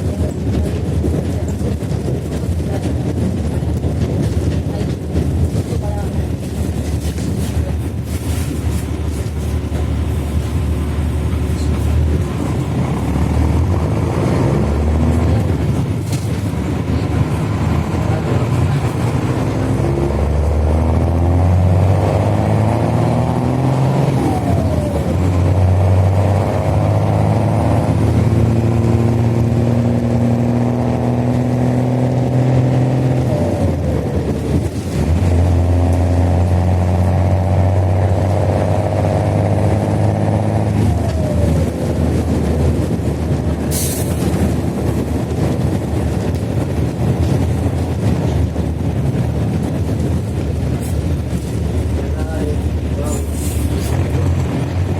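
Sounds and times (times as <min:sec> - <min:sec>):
bus diesel engine accelerating: 0:00.0 - 0:54.9.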